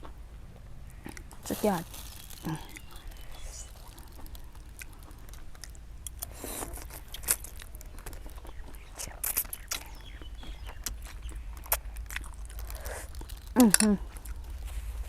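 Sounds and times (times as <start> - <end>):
steady low hum: 0.0 - 15.0
person chewing: 0.9 - 15.0.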